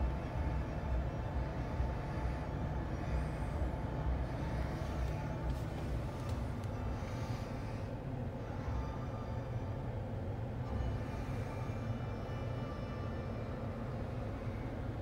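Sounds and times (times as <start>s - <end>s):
pickup engine idling: 0.0s - 14.8s.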